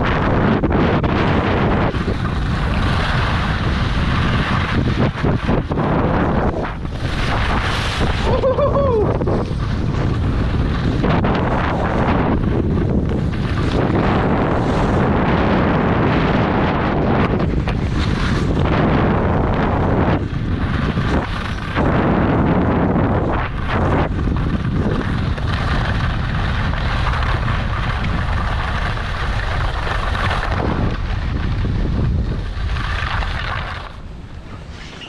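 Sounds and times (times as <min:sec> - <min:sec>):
skis scraping on snow: 0:00.0 - 0:35.0
wind buffeting microphone: 0:00.0 - 0:35.0.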